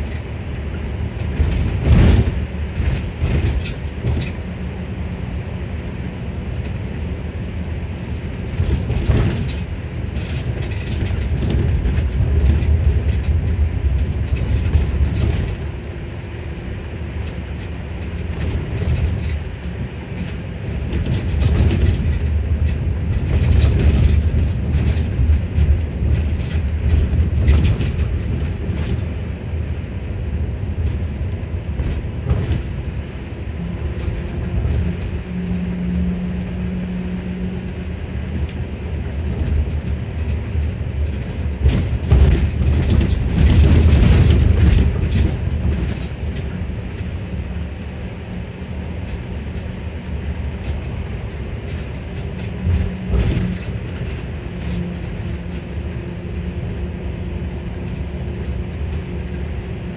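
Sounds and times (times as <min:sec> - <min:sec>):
rattles and clicks: 0:00.0 - 0:04.7, 0:06.0 - 0:59.9
bus low rumble: 0:00.0 - 0:59.9.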